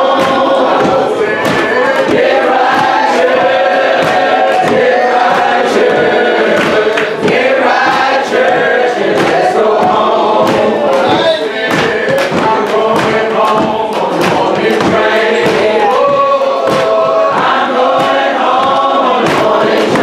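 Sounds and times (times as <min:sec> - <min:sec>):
congregation singing gospel song: 0:00.0 - 0:20.0
sharp percussive hits: 0:00.0 - 0:20.0.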